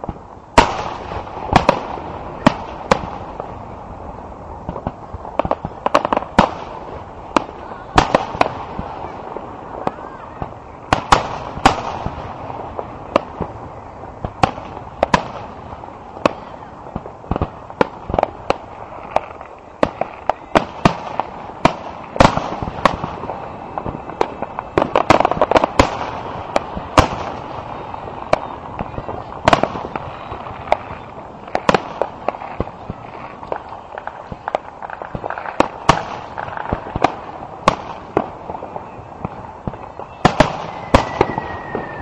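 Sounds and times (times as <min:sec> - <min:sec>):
fireworks bangs: 0:00.0 - 0:42.0.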